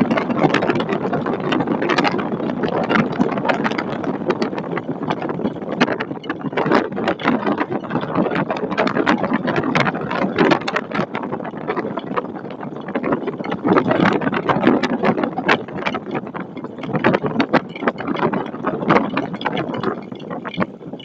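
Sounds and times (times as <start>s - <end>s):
wind and rain on microphone: 0.0s - 21.0s.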